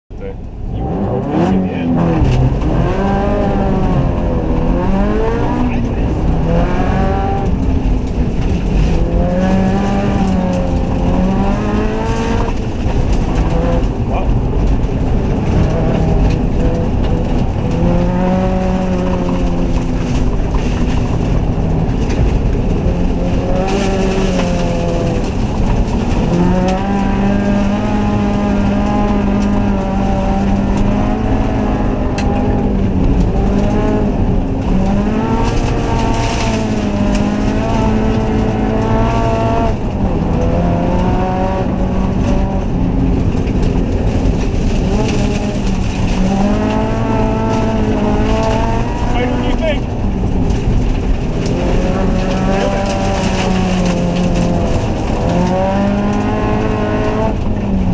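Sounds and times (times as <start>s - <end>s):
car engine revving: 0.1s - 57.9s.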